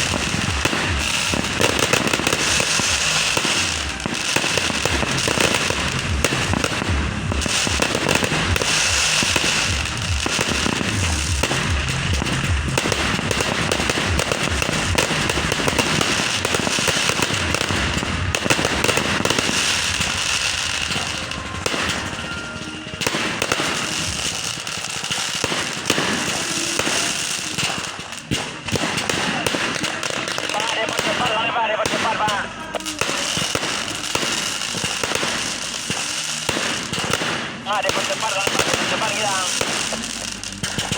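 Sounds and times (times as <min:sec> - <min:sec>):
fireworks banging and crackling: 0:00.0 - 0:40.9.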